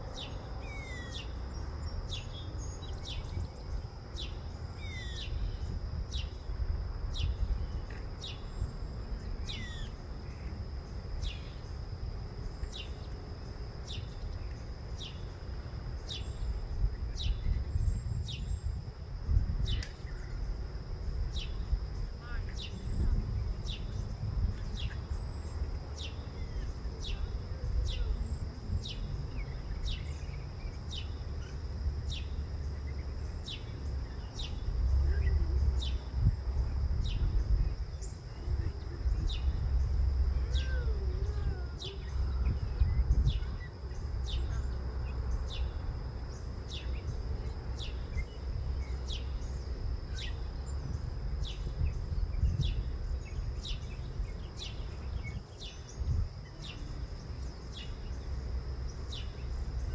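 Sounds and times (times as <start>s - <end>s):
bird chirping: 0.0s - 6.5s, 7.1s - 18.8s, 21.3s - 36.3s, 36.9s - 59.9s
steady high-pitched whine: 0.0s - 59.9s.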